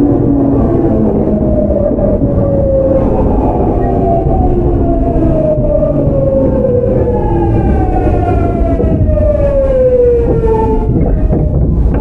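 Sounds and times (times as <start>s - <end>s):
low rumble of running gear: 0.0s - 12.0s
train inverter whining: 0.0s - 12.0s.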